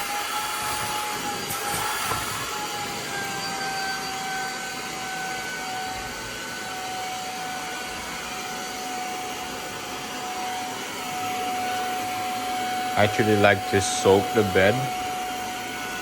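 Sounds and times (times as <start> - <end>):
spot cleaner motor whining: 0.0 - 16.0.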